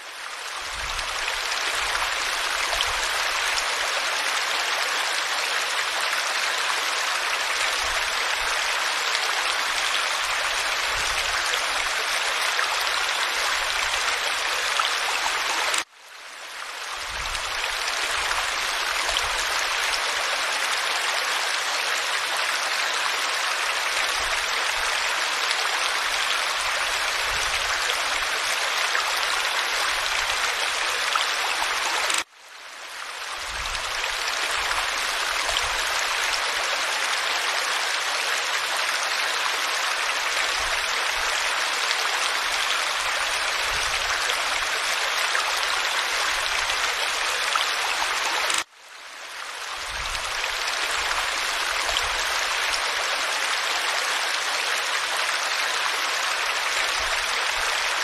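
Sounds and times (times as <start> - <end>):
stream splashing over rocks: 0.0 - 15.9, 16.5 - 58.0.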